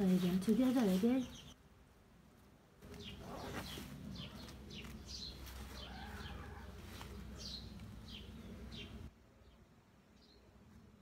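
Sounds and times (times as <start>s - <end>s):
small birds chirping: 0.0s - 1.6s, 2.8s - 11.0s.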